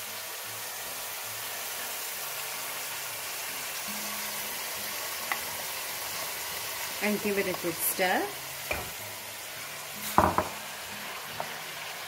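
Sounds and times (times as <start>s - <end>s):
chicken sizzling in oil: 0.0s - 12.0s
soft background music: 0.0s - 12.0s.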